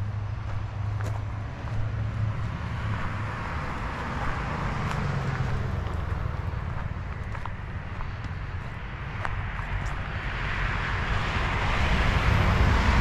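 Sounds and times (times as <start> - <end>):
footsteps on dirt path: 0.0 - 10.6
car passing on highway: 0.0 - 13.0.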